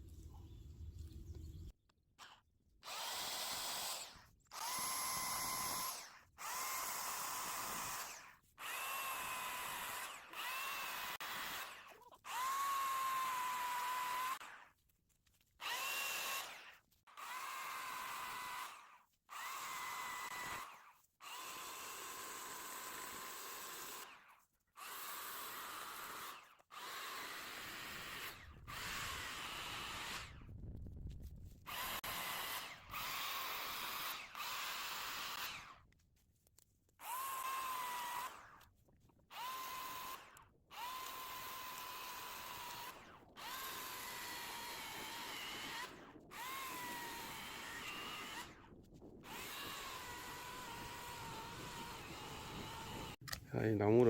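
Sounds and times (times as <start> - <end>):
electric chainsaw motor whining: 2.2 - 30.8, 31.6 - 35.9, 37.0 - 54.0.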